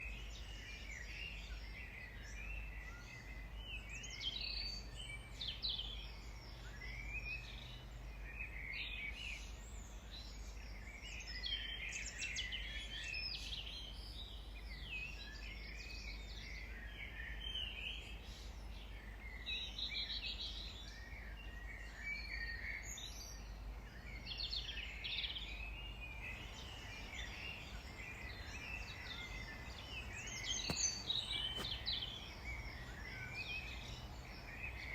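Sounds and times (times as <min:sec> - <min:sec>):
songbirds chirping and singing: 0:00.1 - 0:34.9.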